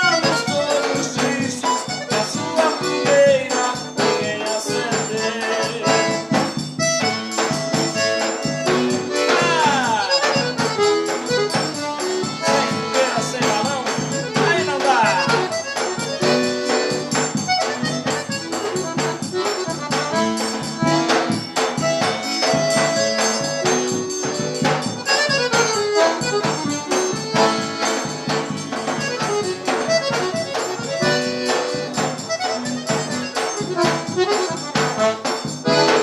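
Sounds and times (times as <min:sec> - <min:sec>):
accordion melody: 0:00.0 - 0:36.0
jingling shaken percussion: 0:00.0 - 0:36.0
percussion beat: 0:00.0 - 0:36.0.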